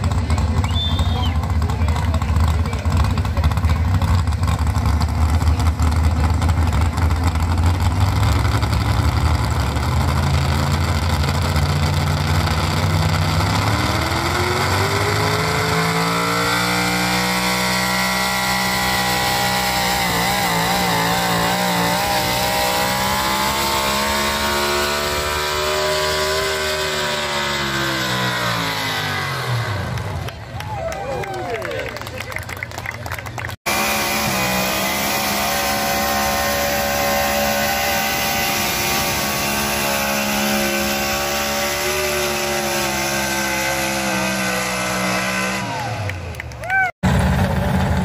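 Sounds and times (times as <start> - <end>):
tractor engine revving: 0.0 - 30.6, 32.0 - 48.0.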